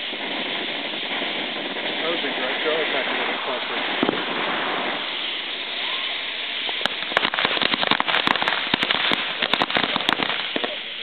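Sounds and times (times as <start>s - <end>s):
firework crackling pops: 0.0s - 11.0s
firework hissing: 0.0s - 11.0s.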